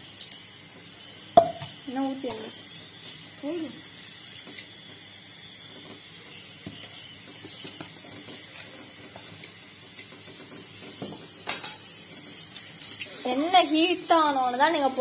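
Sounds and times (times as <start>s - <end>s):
gas burner hiss: 0.0s - 15.0s.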